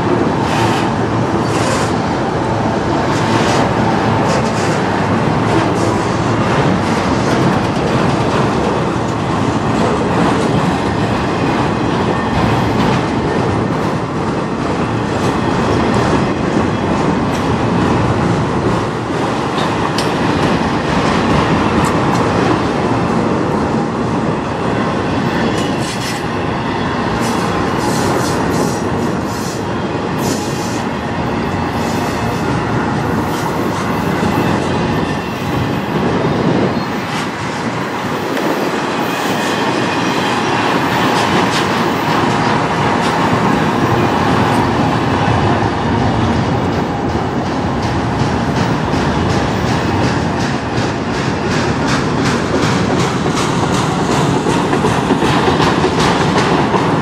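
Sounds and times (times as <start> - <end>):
clickety-clack over rail joints: 0.0 - 57.0
train wheels rumbling on rails: 0.0 - 57.0.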